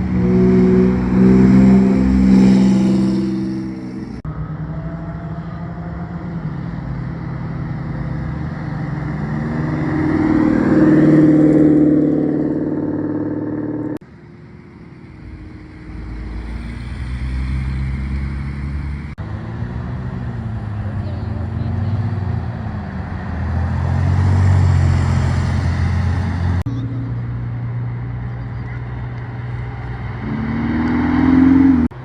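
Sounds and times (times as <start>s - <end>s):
car engines accelerating past: 0.0s - 14.0s, 15.1s - 32.0s.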